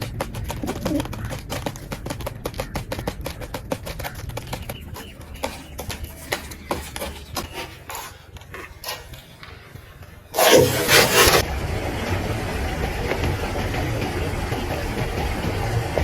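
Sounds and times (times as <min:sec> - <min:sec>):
rapid irregular tapping and clicking: 0:00.0 - 0:10.2, 0:10.9 - 0:16.0.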